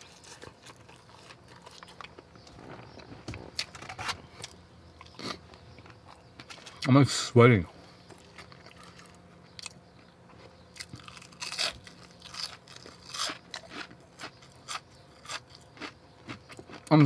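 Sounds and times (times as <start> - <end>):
crunchy chewing: 0.0 - 6.9, 7.7 - 17.0.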